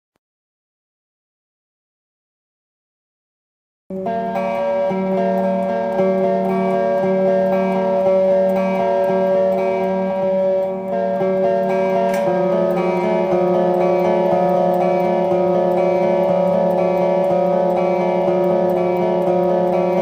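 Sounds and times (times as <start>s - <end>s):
ringing metal guitar chords: 3.9s - 20.0s.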